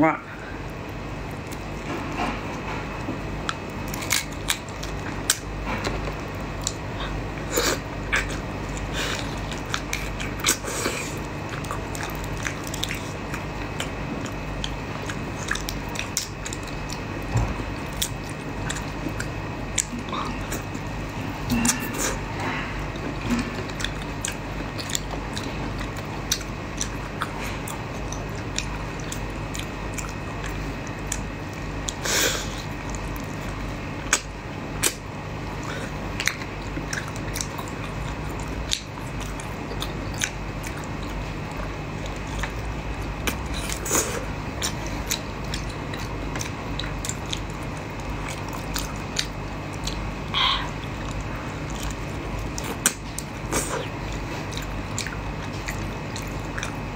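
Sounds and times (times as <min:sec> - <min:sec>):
steady low hum: 0:00.0 - 0:56.9
chewing: 0:01.2 - 0:56.9.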